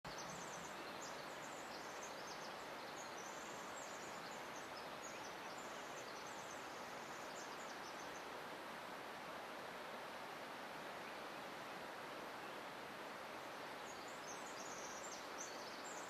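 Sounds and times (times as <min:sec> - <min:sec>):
small birds chirping: 0:00.1 - 0:08.9, 0:10.8 - 0:16.0
rushing outdoor hiss: 0:00.1 - 0:16.0.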